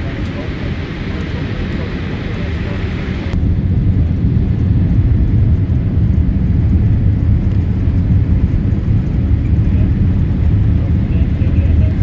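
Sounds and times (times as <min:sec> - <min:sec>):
jet engine noise in cabin: 0:00.0 - 0:12.0
wheels rolling on tarmac: 0:00.0 - 0:12.0.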